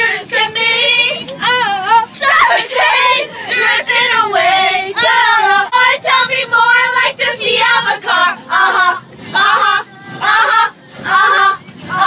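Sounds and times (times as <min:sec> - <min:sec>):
group of women singing: 0:00.0 - 0:12.0.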